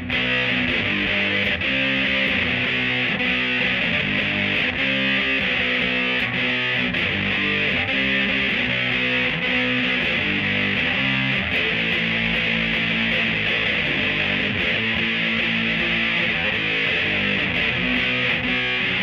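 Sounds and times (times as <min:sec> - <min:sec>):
fuzzy electric guitar chords: 0:00.0 - 0:19.0.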